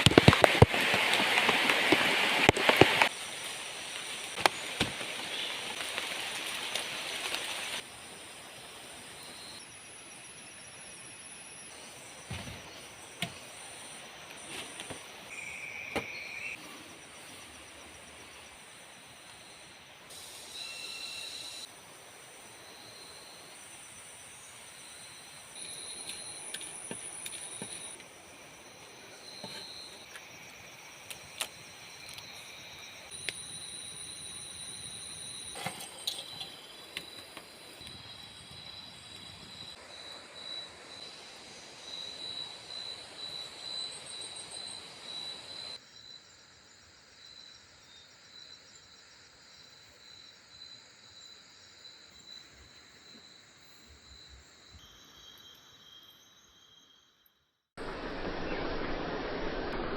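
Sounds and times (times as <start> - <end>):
insects trilling: 0.0 - 57.4.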